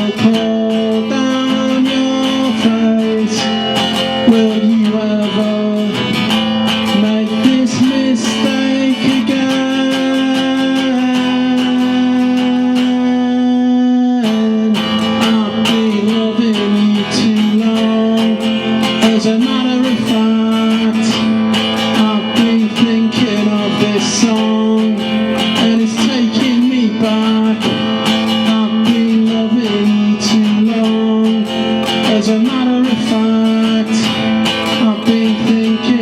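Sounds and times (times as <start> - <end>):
solo acoustic guitar blues: 0.0 - 36.0.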